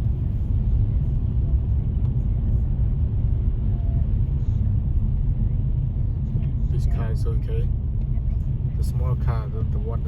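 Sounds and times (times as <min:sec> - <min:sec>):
car engine rumble from inside: 0:00.0 - 0:10.0.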